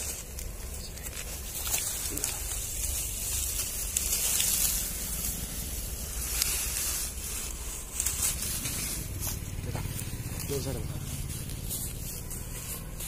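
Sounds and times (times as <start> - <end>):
dry grass rustling and crackling: 0.0 - 13.0.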